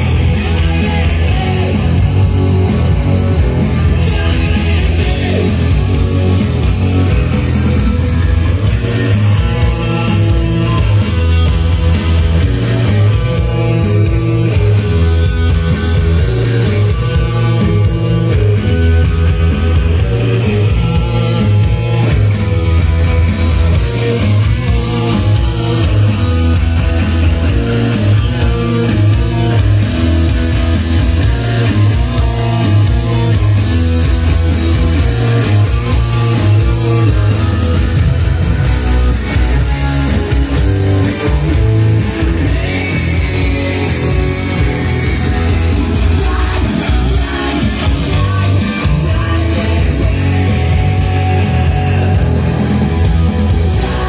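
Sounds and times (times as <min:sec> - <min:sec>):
rock music over speakers: 0:00.0 - 0:54.0.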